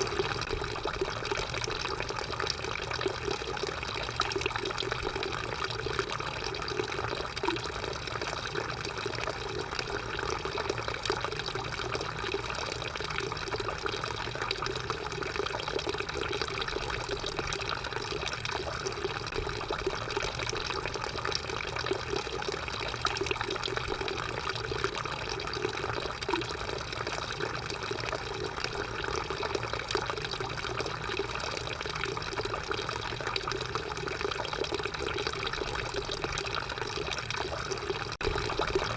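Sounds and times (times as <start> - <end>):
drinking fountain water splashing: 0.0 - 38.9.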